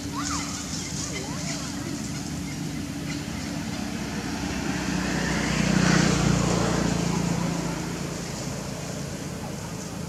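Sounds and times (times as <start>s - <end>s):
vehicle engine hum passing: 0.0s - 10.0s.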